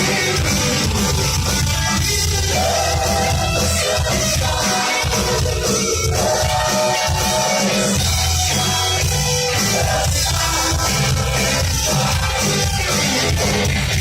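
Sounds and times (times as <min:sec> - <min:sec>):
person singing: 0:00.0 - 0:14.0
rock band playing: 0:00.0 - 0:14.0.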